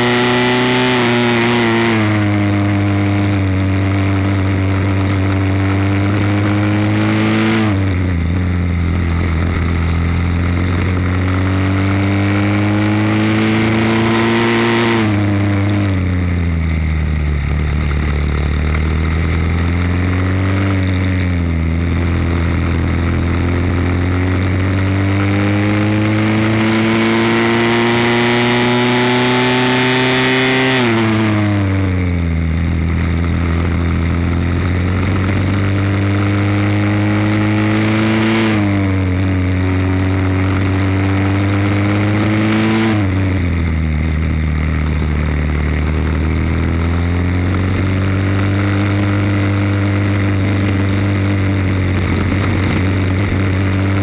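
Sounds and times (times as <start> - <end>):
kart engine at racing speed: 0.0 - 54.0.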